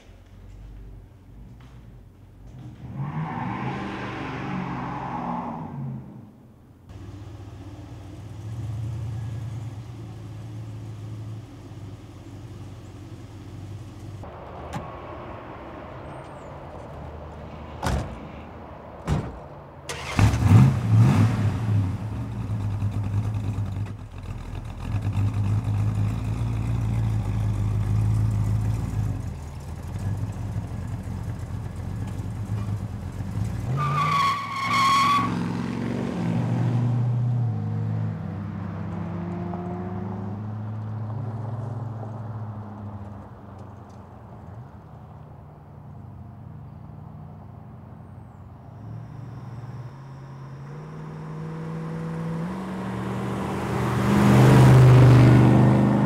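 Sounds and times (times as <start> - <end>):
car engine rumbling and revving: 0.0 - 56.0.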